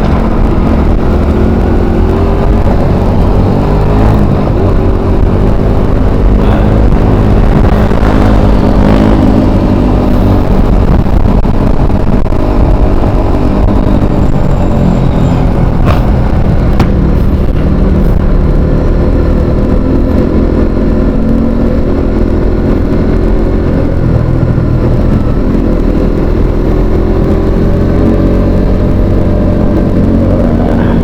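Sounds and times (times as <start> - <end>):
road and wind noise: 0.0 - 31.0
vehicle engine running: 0.0 - 31.0.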